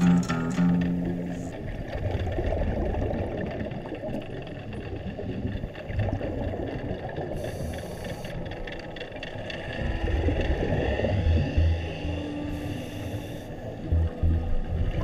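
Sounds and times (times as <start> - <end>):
underwater low rumble and drone: 0.0 - 15.0.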